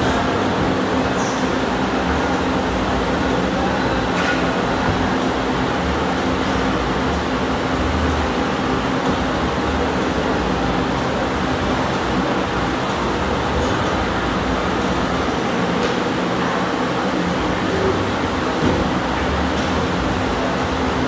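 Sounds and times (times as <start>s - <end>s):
fan with low hum: 0.0s - 21.0s.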